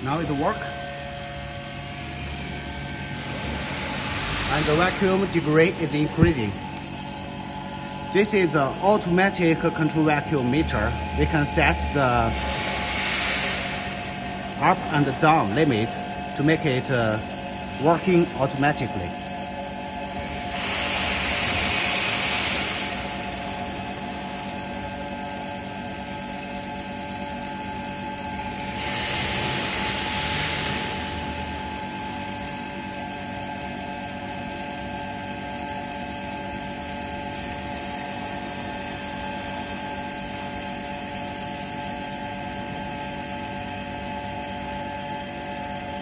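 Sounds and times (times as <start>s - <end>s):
vacuum pump humming and whining: 0.0s - 46.0s.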